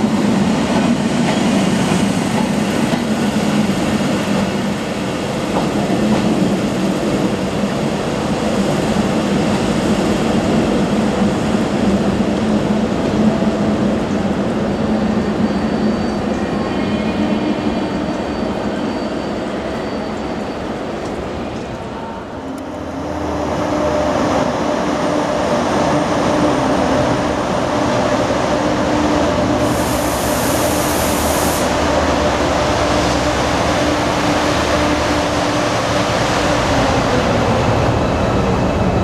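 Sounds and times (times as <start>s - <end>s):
diesel locomotive engine drone: 0.0s - 39.0s
distant rail noise: 0.0s - 39.0s.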